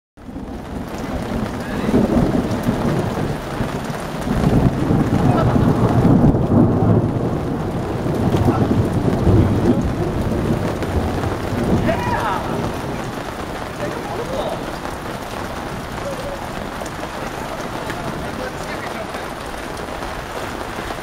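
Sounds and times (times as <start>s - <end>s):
heavy rain: 0.2s - 21.0s.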